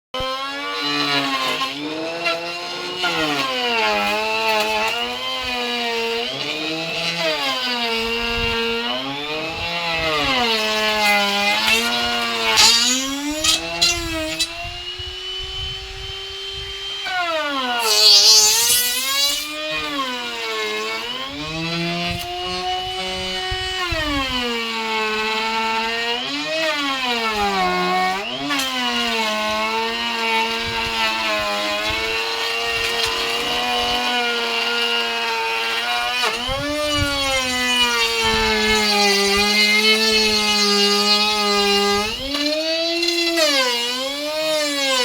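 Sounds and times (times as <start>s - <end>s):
electric power tool on wood: 0.2s - 45.0s.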